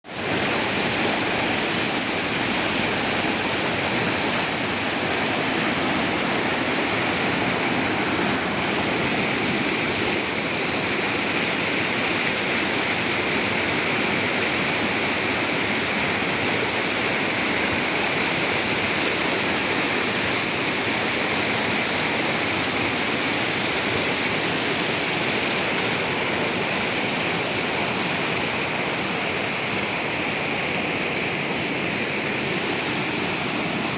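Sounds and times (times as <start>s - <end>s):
river water rushing over rocks: 0.1s - 33.9s.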